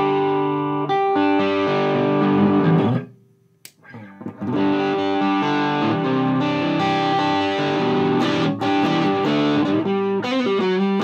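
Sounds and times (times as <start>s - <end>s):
overdriven electric guitar chords: 0.0s - 11.0s.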